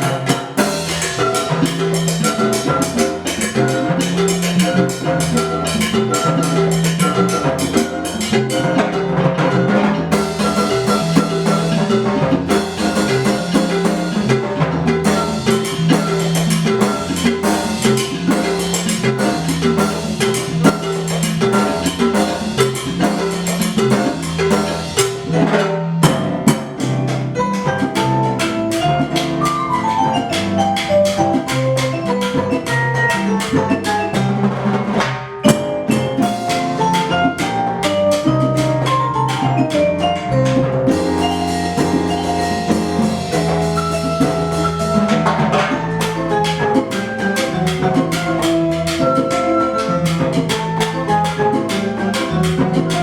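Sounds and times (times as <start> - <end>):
drums playing rhythm: 0.0 - 53.0
struck pitched percussion notes: 0.0 - 53.0.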